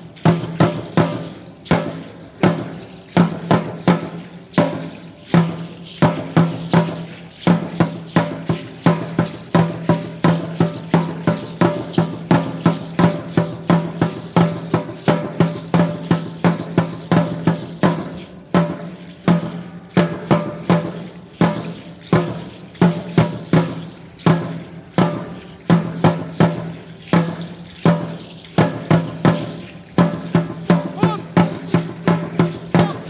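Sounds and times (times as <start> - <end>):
fast ringing drumbeat: 0.0 - 33.0.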